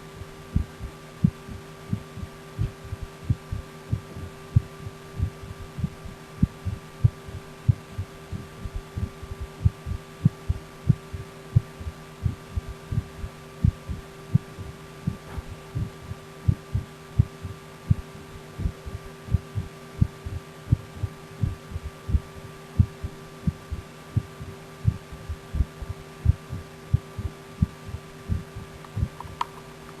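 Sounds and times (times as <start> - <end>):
constant hum: 0.0 - 30.0
heartbeat thumps: 0.2 - 29.3.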